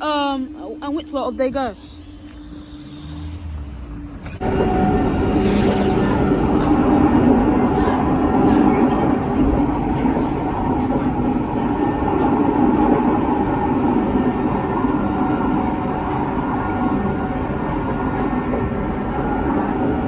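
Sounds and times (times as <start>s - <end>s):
train engine drone: 0.0s - 20.0s
train passing: 0.0s - 20.0s.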